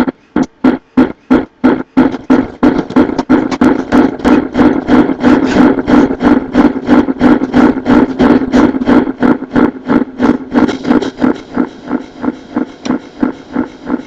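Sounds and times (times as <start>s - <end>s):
distorted kick drum pounding: 0.0s - 14.0s
hardcore techno music: 0.0s - 14.0s.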